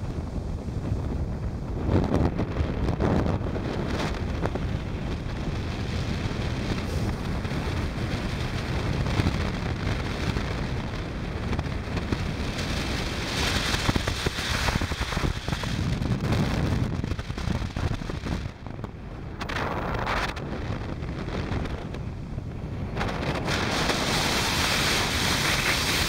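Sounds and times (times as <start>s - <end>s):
motorcycle rumble: 0.0s - 26.0s
wind buffeting microphone: 0.0s - 26.0s.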